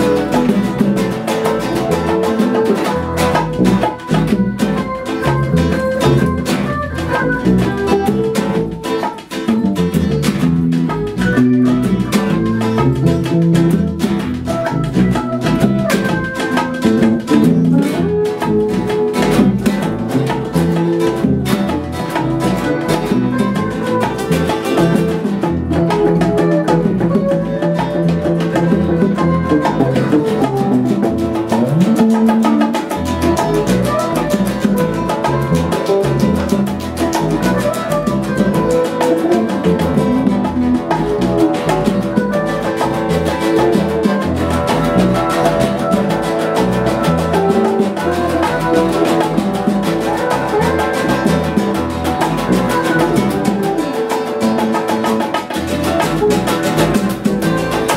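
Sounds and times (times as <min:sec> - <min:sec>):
electric bass: 0:00.0 - 0:53.9, 0:55.5 - 0:57.9
acoustic guitar: 0:00.0 - 0:57.9
electric guitar: 0:00.0 - 0:57.9
hand drum rhythm: 0:00.0 - 0:57.9.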